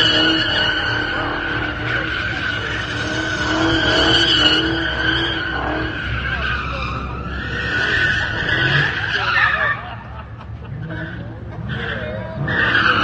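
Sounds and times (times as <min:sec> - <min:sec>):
car engine revving: 0:00.0 - 0:13.0
car tyres squealing: 0:00.0 - 0:13.0.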